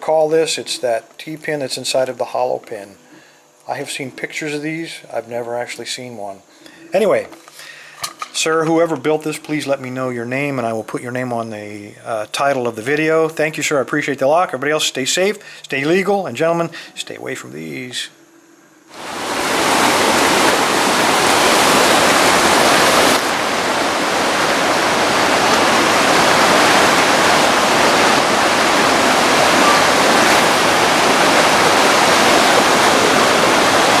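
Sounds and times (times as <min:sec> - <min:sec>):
loud steady rushing hiss: 0:00.0 - 0:13.3, 0:18.8 - 0:34.0.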